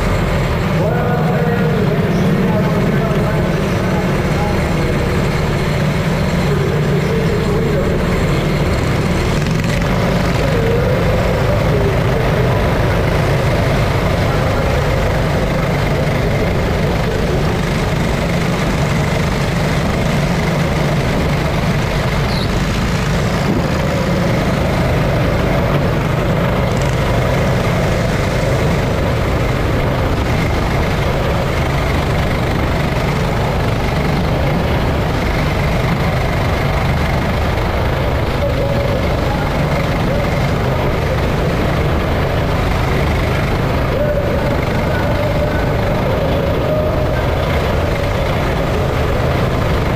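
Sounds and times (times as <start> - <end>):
go-kart engine racing: 0.0 - 49.9
other go-kart engines: 0.0 - 49.9.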